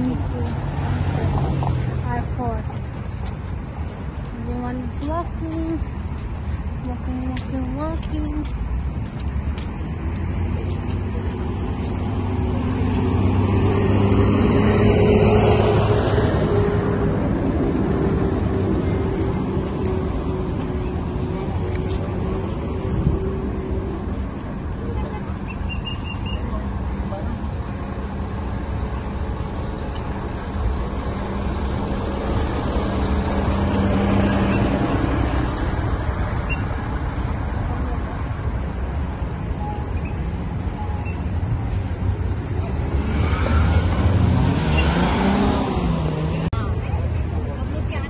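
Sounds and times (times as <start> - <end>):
bus engine humming: 0.0 - 48.0.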